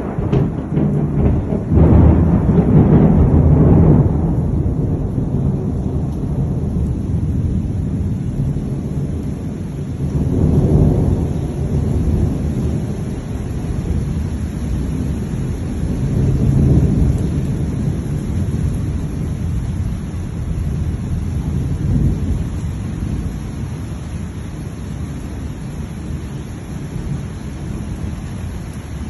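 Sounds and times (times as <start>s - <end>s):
rain: 0.0s - 29.0s
thunder rumbling: 0.0s - 29.0s.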